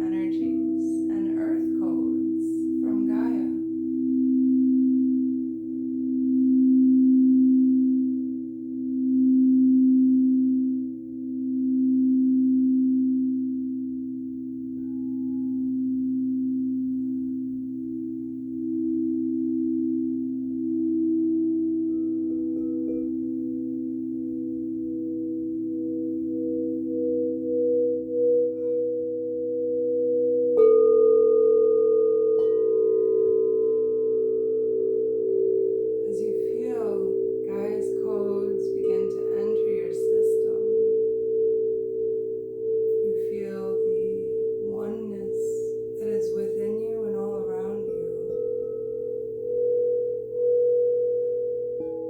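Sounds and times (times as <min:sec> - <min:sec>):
singing bowl tone: 0:00.0 - 0:52.0.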